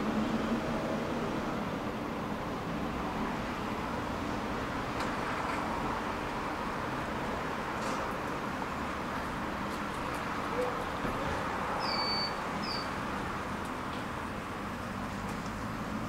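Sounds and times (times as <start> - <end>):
tram running: 0.0 - 16.0.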